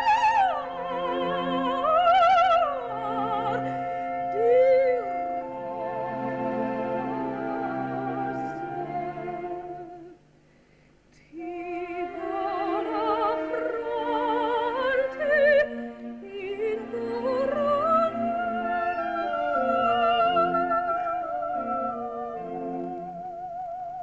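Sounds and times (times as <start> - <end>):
orchestra playing: 0.0 - 10.1, 12.0 - 23.2
soprano singing: 0.0 - 10.2, 11.2 - 24.0.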